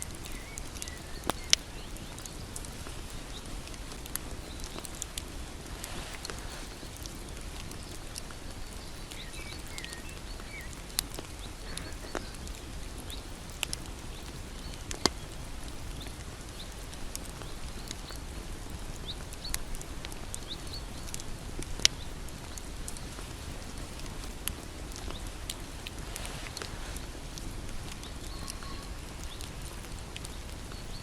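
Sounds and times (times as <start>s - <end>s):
bonfire crackling: 0.0s - 31.0s.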